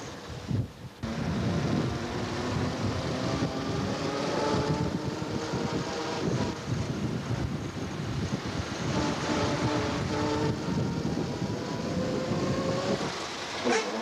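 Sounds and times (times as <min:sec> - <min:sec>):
road and wind noise: 0:00.0 - 0:14.0
jeep engine running: 0:01.0 - 0:14.0.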